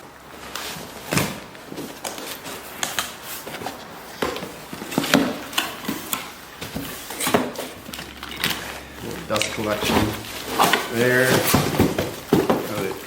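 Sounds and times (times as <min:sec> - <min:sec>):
cardboard packaging rustling: 0:00.3 - 0:13.0.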